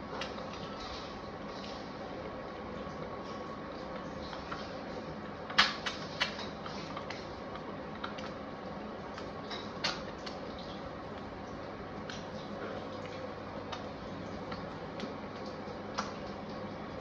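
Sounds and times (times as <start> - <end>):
faint steady hum: 0.0 - 17.0
oil popping and crackling: 0.0 - 17.0.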